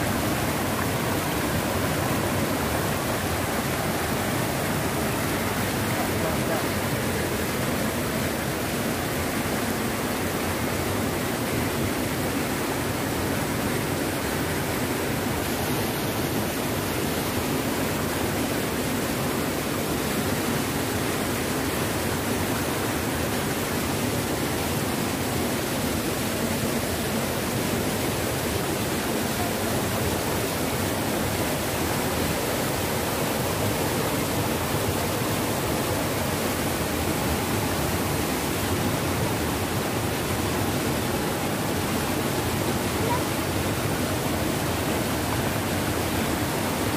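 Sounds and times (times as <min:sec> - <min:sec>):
river rushing over stones: 0:00.0 - 0:46.9.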